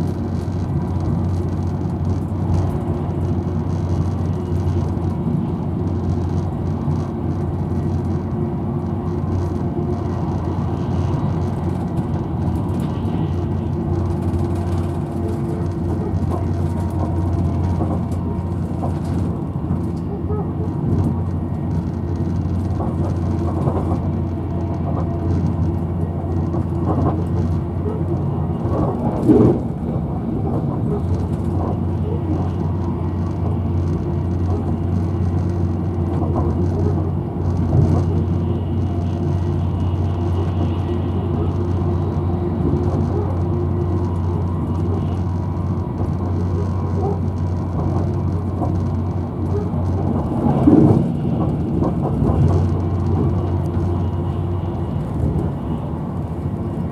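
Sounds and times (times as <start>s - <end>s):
train carriage rumble on rails: 0.0s - 56.9s.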